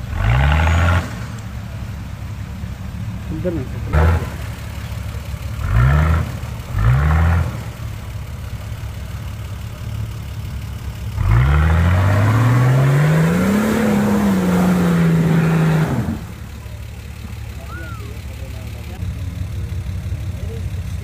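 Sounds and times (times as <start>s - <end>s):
off-road engine revving: 0.0s - 21.0s
wheels churning through mud: 3.2s - 21.0s.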